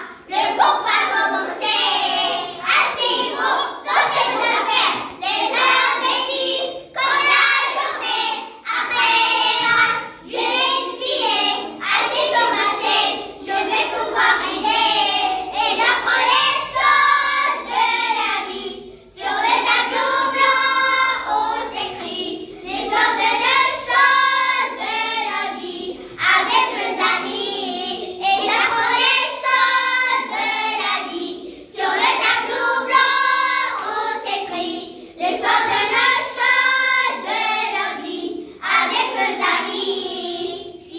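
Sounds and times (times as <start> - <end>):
children singing in unison: 0.0 - 40.9.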